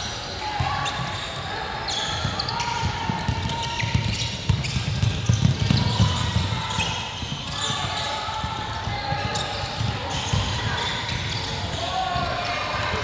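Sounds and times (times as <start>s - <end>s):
basketball bouncing on wooden court: 2.1s - 12.8s.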